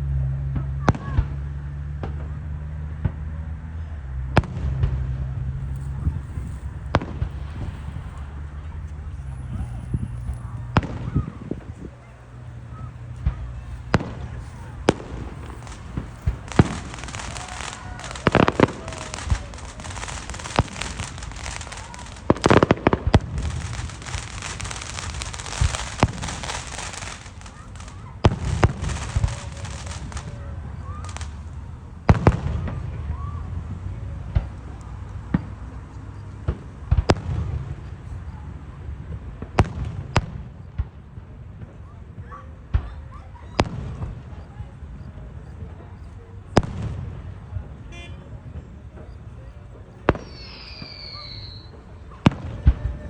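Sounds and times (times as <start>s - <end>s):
crackling fireworks: 0.0s - 53.0s
fireworks bangs: 4.3s - 38.3s, 43.6s - 53.0s
small firework pops: 4.4s - 38.4s, 39.0s - 53.0s.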